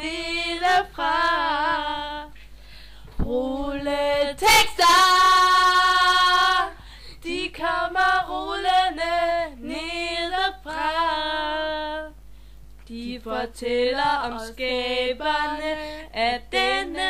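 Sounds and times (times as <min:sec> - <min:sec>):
women singing: 0:00.0 - 0:02.5, 0:03.2 - 0:12.2, 0:12.9 - 0:17.0.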